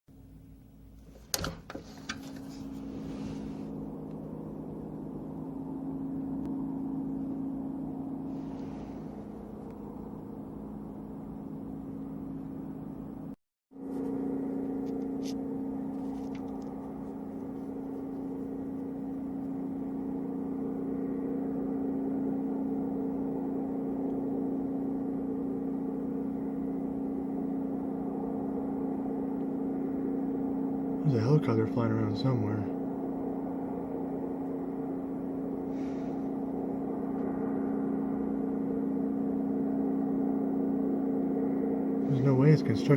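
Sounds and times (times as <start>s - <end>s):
distant horn-like drone: 2.4s - 12.7s, 13.8s - 42.9s.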